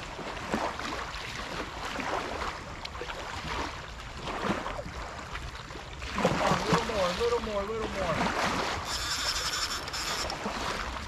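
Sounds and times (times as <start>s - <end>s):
waves lapping on a bank: 0.0s - 11.0s.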